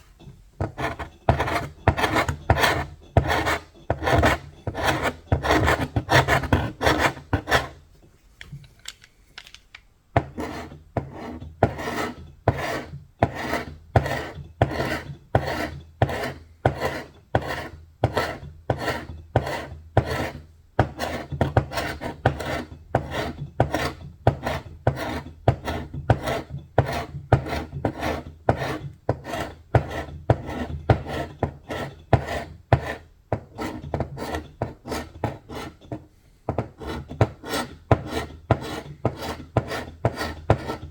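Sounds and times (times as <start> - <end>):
hand scraping paint off wood: 0.6 - 7.8, 10.2 - 40.9.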